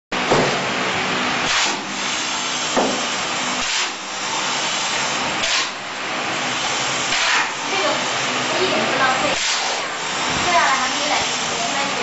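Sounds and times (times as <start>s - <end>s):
rendering machine hissing: 1.0s - 12.0s.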